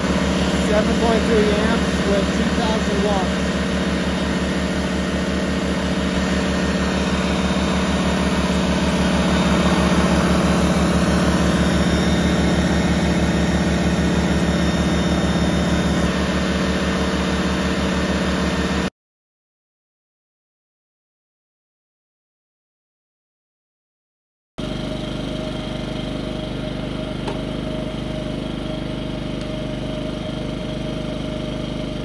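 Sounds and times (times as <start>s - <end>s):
generators running: 0.0s - 18.9s, 24.6s - 32.0s
shop vac running: 0.0s - 18.9s, 24.6s - 32.0s.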